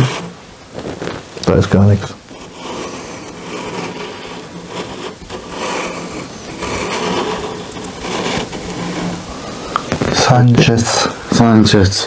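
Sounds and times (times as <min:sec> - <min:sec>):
planchette scraping on board: 0:00.0 - 0:11.2.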